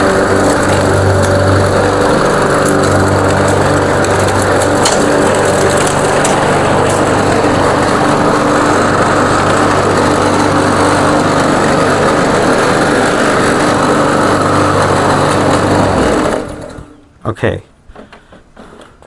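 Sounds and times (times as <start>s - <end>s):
lawn mower engine running: 0.0s - 17.2s.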